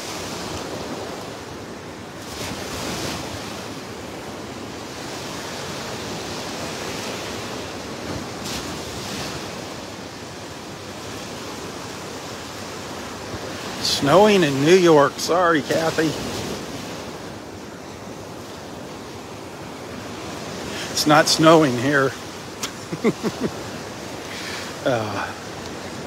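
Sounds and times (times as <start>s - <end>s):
surf breaking on beach: 0.0s - 26.0s.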